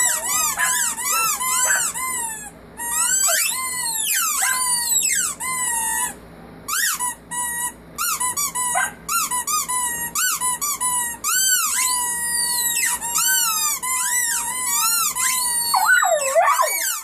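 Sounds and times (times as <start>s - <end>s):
squeaky dog toy squeezed: 0.0s - 17.0s.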